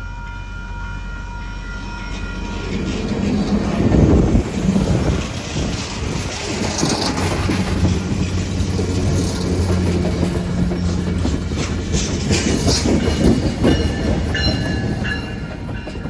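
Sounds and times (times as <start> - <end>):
diesel locomotive engine drone: 0.0 - 16.0
train rolling noise: 0.0 - 16.0.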